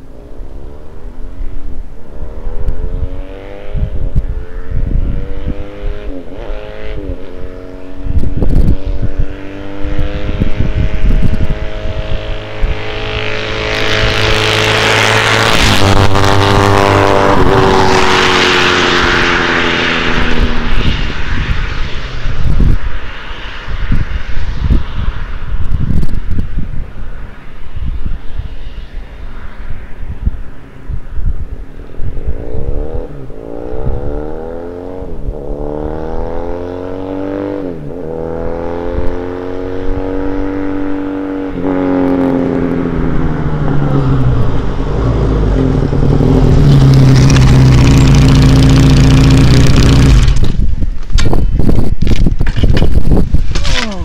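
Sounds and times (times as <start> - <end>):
motorcycle passing by: 2.1 - 50.9.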